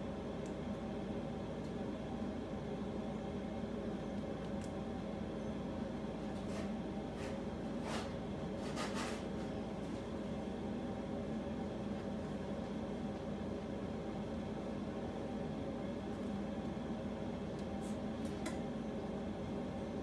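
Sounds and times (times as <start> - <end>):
appliance hum: 0.0 - 20.0.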